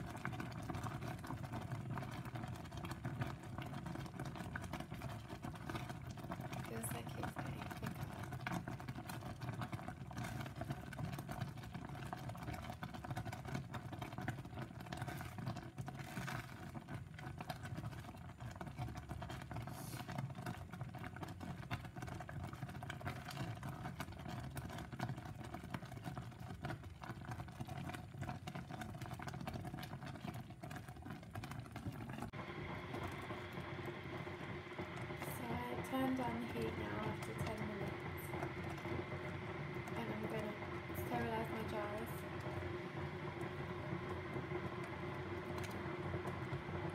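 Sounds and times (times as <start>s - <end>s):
jam boiling in a saucepan: 0.0s - 46.9s.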